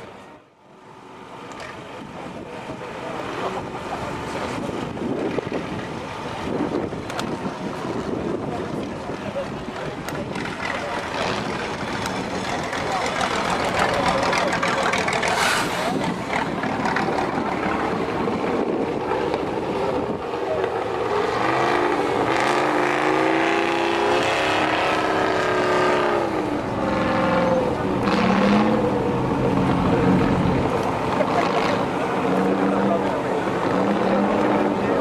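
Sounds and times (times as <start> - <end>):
truck engine working hard: 0.0 - 35.0.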